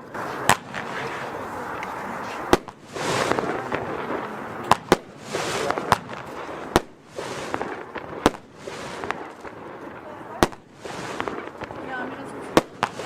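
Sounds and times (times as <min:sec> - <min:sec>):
firework hissing: 0:00.0 - 0:13.0
firework sharp reports: 0:00.0 - 0:13.0.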